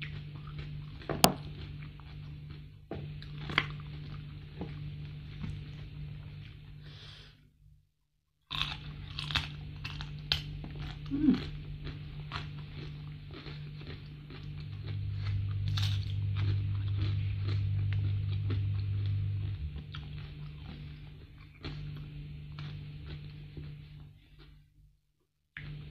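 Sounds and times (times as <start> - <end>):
chewing and crunching food: 0.0 - 6.8, 8.5 - 24.7, 25.6 - 25.9
steady low hum: 0.0 - 7.8, 8.5 - 24.8, 25.6 - 25.9.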